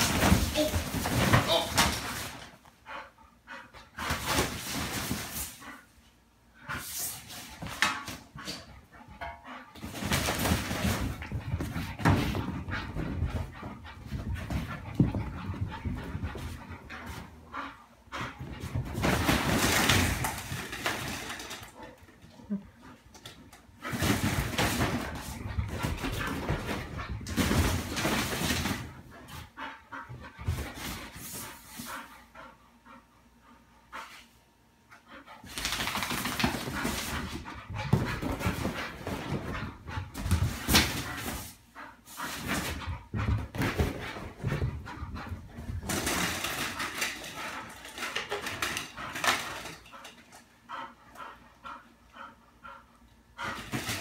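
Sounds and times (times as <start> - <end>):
dog playing noises: 0.0 - 54.0.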